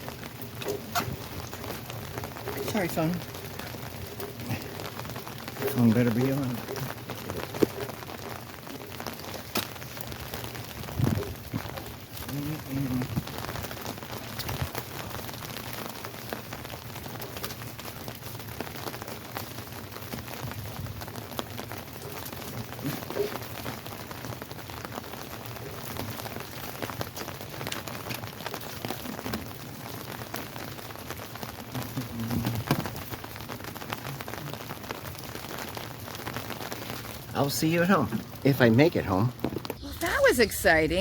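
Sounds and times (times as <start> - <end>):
heavy rain falling: 0.0 - 41.0
raindrops ticking on surfaces: 0.0 - 41.0.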